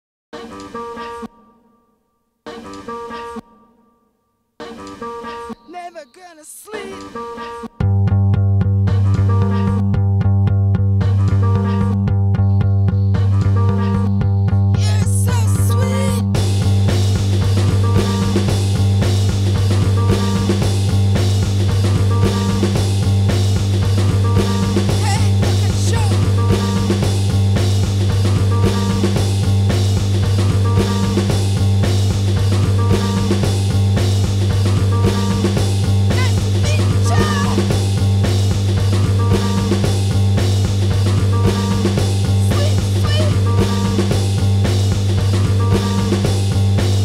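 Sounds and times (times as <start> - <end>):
indie rock instrumental: 6.7 - 47.0.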